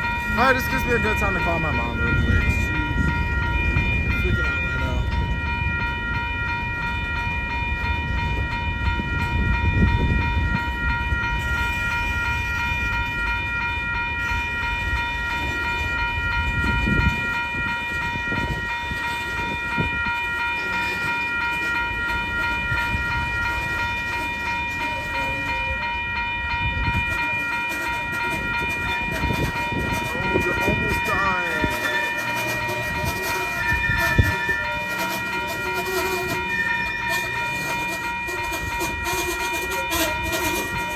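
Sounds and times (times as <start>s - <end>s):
freight train rumbling: 0.0s - 40.9s
high ringing tone: 0.0s - 40.9s.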